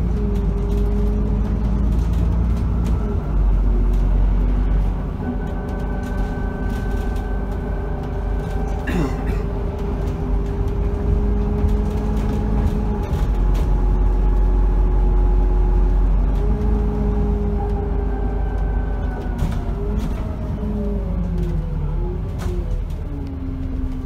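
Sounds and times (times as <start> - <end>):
bus engine and road rumble: 0.0 - 24.0
drivetrain whine: 0.0 - 24.0.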